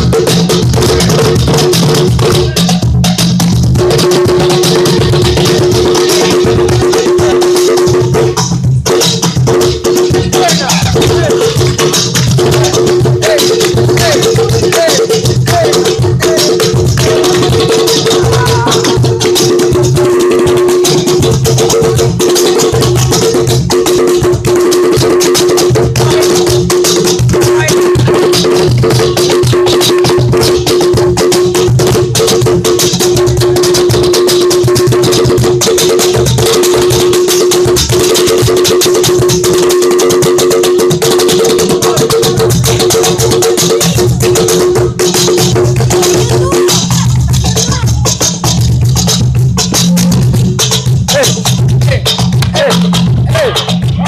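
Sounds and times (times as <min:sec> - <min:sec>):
fast busy percussion: 0:00.0 - 0:54.0
rattles and drums groove: 0:00.0 - 0:54.0.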